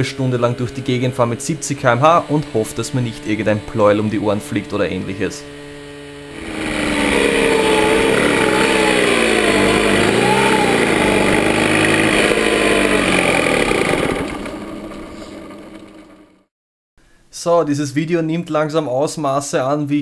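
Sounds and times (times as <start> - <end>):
moped two-stroke engine running: 0.0 - 16.5.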